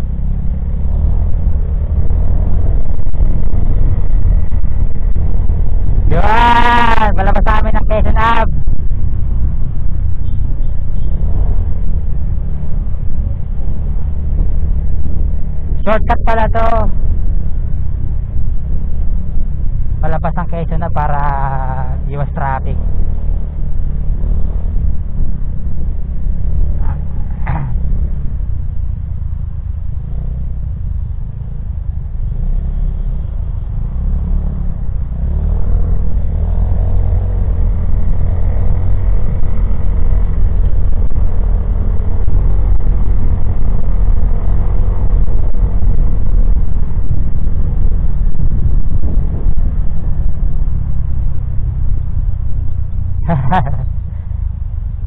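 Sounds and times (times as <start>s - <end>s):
road and traffic rumble: 0.0s - 55.0s.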